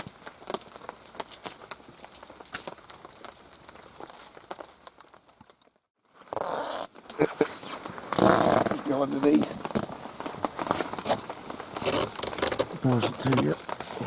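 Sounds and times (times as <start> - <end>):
rain drops tapping: 0.0 - 14.0
rustling noise: 0.0 - 14.0.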